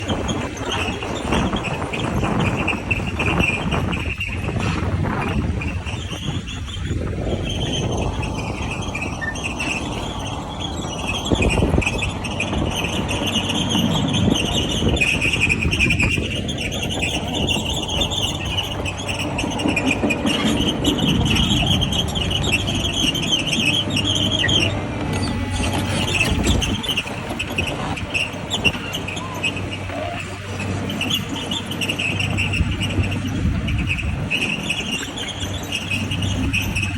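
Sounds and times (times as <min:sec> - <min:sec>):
construction machine engine running: 0:00.0 - 0:36.9.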